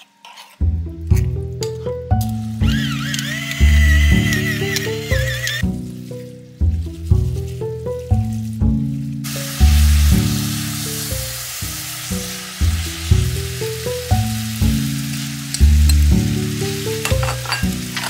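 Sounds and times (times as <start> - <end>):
background music: 0.0 - 18.0
noodles sizzling in a pan: 2.2 - 18.0.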